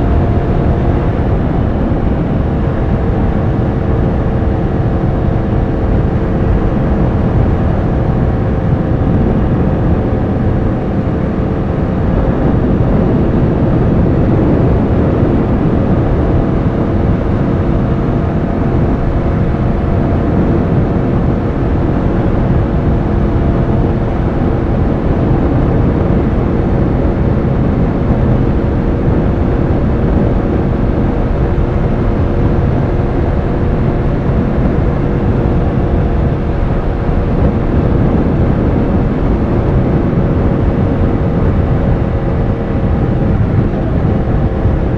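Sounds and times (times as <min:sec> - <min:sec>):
heavy low rushing noise: 0:00.0 - 0:44.9
motorcycle engine cruising: 0:00.0 - 0:44.9.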